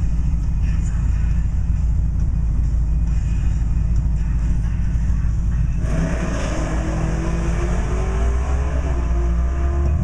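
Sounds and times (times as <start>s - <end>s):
truck engines idling: 0.0s - 10.0s.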